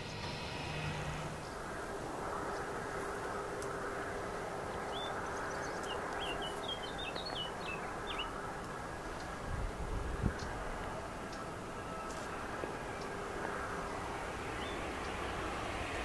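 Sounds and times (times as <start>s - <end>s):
faint steady tone: 0.0s - 16.0s
jet engines humming: 0.0s - 16.0s.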